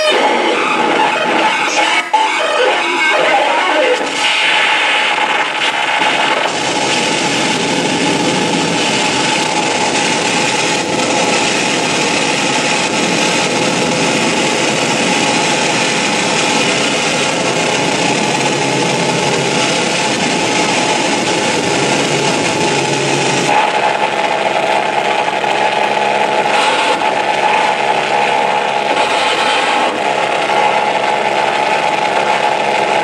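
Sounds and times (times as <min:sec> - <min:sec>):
harsh electronic noise: 0:00.0 - 0:33.0.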